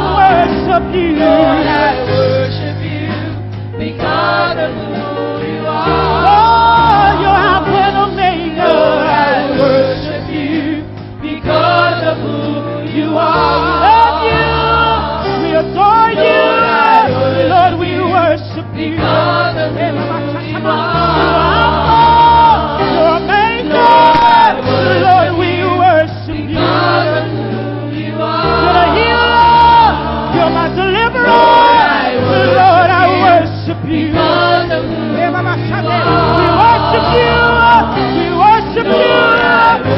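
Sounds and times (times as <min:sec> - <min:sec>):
band accompaniment: 0:00.0 - 0:39.9
bass line: 0:00.0 - 0:39.9
gospel choir singing: 0:00.0 - 0:39.9.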